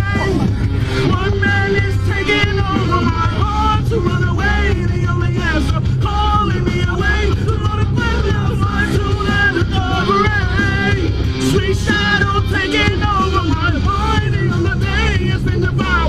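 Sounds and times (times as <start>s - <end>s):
heavy bass line: 0.0s - 16.0s
person singing: 0.0s - 16.0s.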